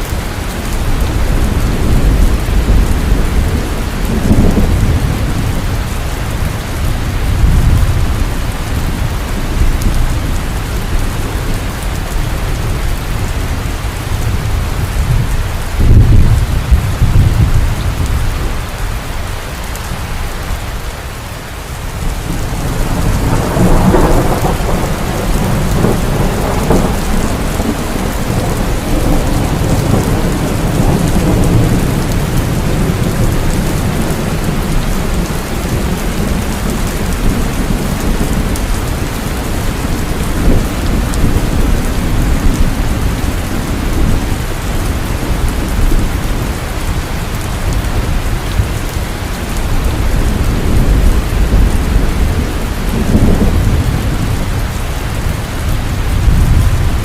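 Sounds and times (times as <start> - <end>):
rolling thunder: 0.0 - 19.0, 21.9 - 57.0
heavy rain falling: 0.0 - 57.0.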